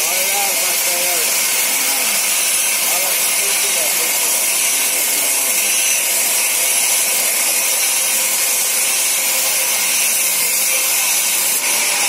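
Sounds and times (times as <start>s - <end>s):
band saw cutting wood: 0.0s - 12.0s.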